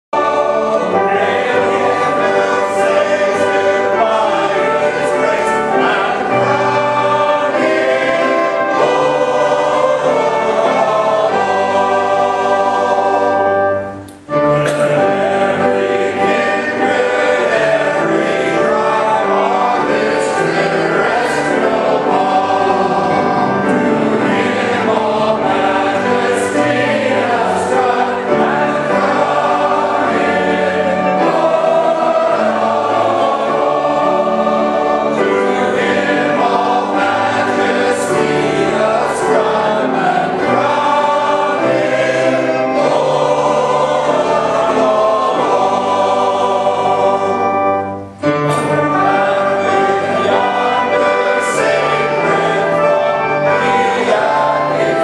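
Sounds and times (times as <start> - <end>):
men's chorus singing a hymn: 0.2 - 55.0.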